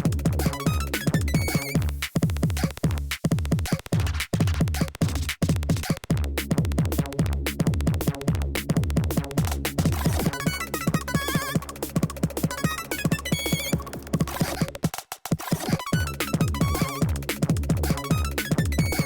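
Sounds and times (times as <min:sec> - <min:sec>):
electronic music with drum machine: 0:00.0 - 0:19.0.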